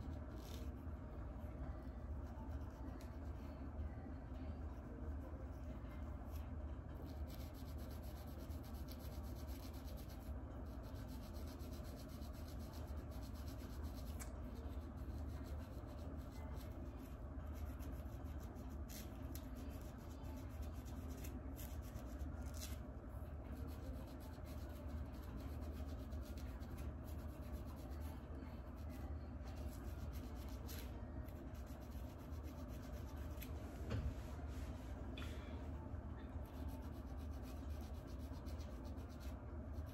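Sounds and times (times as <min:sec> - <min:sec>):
comb scratching through hair: 0:00.0 - 0:03.6, 0:05.9 - 0:22.9, 0:23.5 - 0:33.8, 0:36.4 - 0:39.9
low steady hum: 0:00.0 - 0:39.9.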